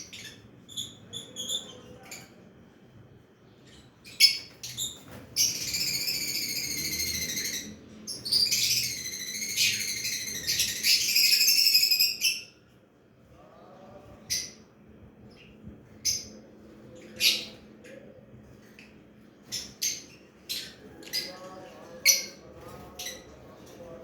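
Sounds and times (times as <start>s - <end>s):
lovebirds twittering: 0.0s - 2.4s, 3.4s - 12.6s, 14.3s - 17.7s, 18.7s - 23.8s.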